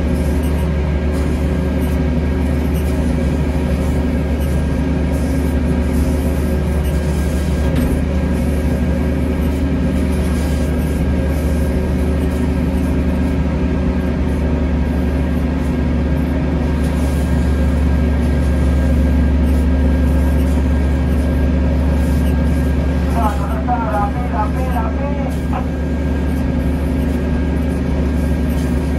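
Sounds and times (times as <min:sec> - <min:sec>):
tug engine humming with whine: 0:00.0 - 0:28.9.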